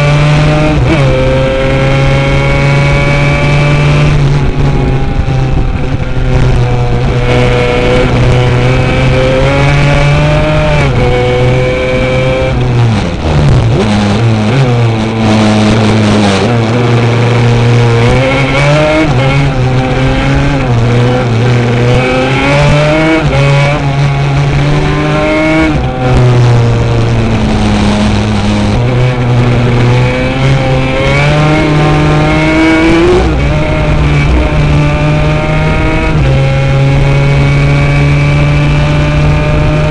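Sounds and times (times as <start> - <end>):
two-stroke quad engine racing: 0.0 - 39.9.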